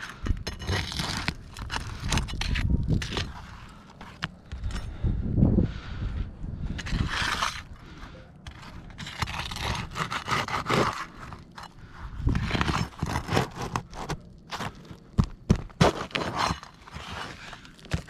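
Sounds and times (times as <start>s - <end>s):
hand tool scraping and rustling: 0.0s - 5.0s, 6.7s - 18.0s.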